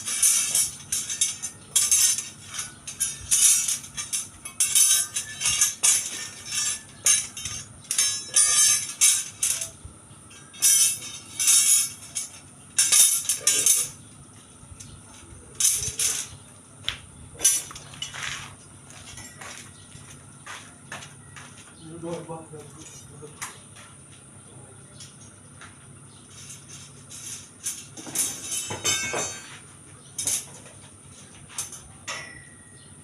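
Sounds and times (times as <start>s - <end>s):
steel bars clinking and rattling: 0.0s - 21.6s, 22.6s - 23.8s, 26.1s - 32.8s.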